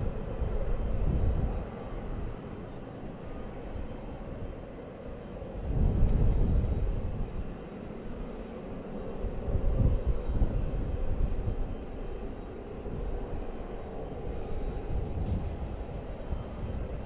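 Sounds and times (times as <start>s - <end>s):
aircraft engines rumbling: 0.0s - 17.0s.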